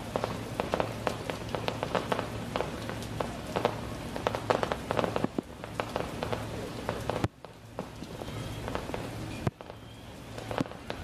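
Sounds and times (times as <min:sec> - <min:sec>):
distant fireworks popping: 0:00.0 - 0:11.0.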